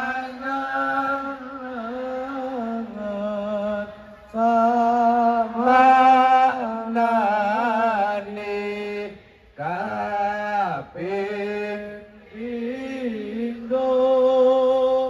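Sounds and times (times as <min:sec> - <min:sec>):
devotional singing over loudspeaker: 0:00.0 - 0:15.0.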